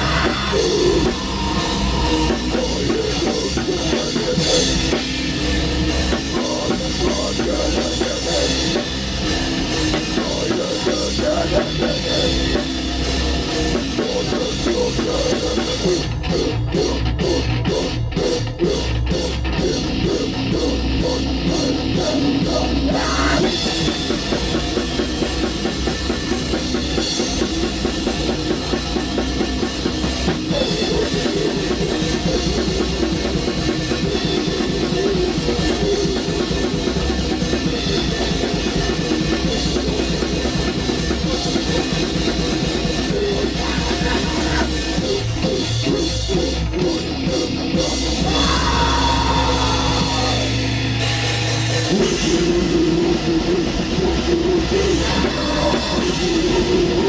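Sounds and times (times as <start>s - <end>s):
black metal band playing: 0.0s - 57.0s
pounding bass drum: 0.0s - 57.0s.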